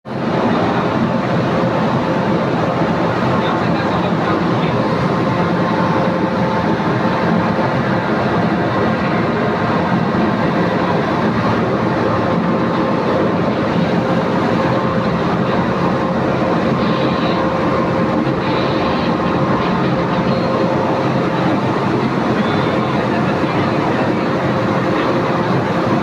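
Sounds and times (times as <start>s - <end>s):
ship engines rumbling: 0.1s - 26.0s
faint steady tones: 1.4s - 26.0s.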